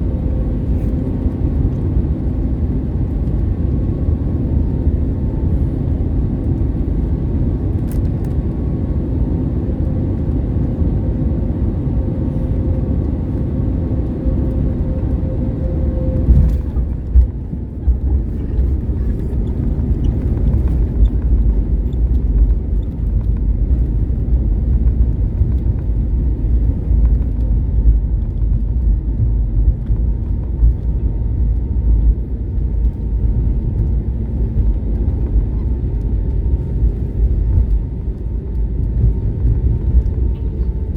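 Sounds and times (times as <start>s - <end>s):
humming engine tone: 0.0s - 40.9s
wheel and engine rumble: 0.0s - 40.9s.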